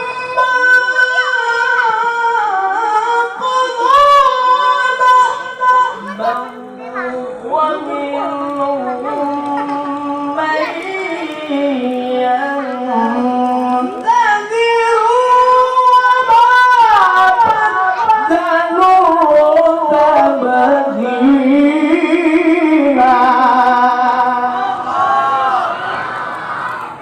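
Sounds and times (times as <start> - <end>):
man reciting in melodic voice: 0.0 - 24.8.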